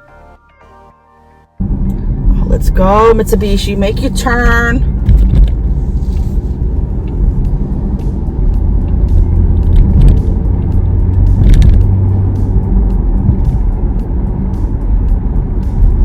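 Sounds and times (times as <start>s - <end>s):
road noise: 0.0s - 16.0s
car engine rumble: 1.6s - 16.0s.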